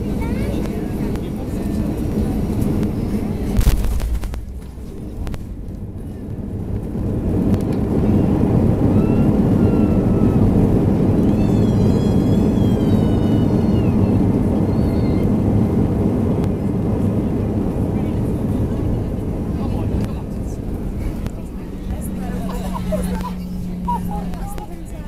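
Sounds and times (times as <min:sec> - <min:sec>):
jet engine reverse thrust roar: 0:00.0 - 0:25.0.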